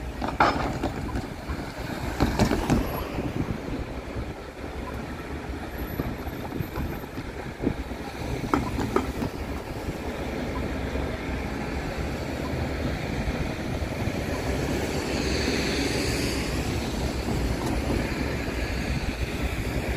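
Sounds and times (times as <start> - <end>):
traffic rumble: 0.0 - 19.9
tyre noise of passing car: 0.0 - 19.9.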